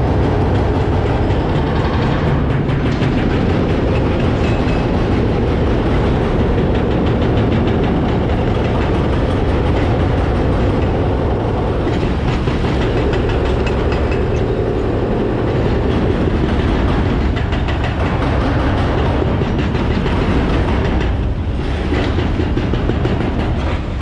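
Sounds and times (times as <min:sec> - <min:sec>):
heavy diesel machinery rumbling: 0:00.0 - 0:24.0
rattling clatter: 0:00.0 - 0:24.0.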